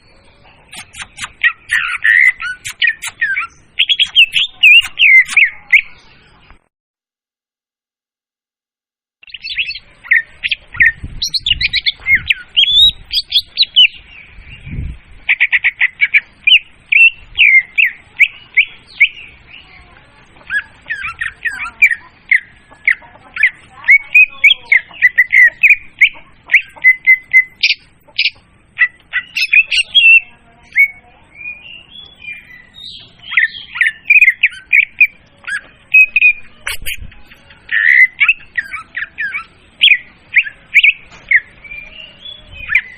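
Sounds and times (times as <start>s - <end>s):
bird chirps trills and whistles: 0.0s - 6.4s, 9.2s - 19.8s, 20.4s - 42.9s.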